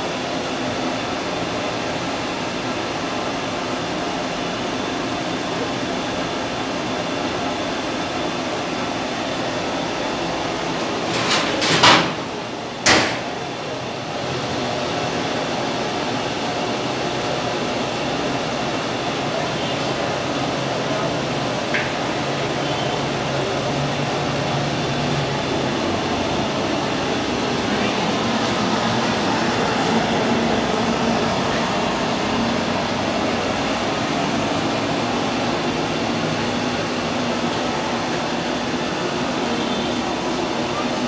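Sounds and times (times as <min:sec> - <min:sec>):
gas burners rushing: 0:00.0 - 0:41.0.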